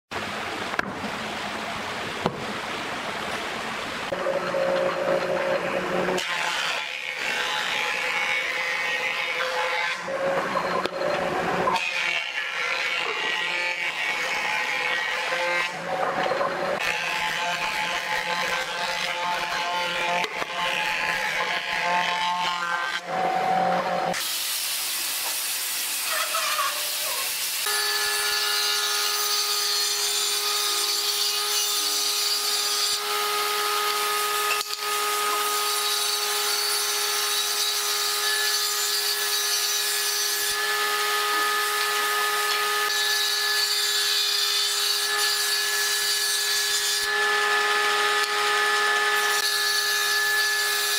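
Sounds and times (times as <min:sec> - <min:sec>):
table saw whine: 0:04.1 - 0:50.9.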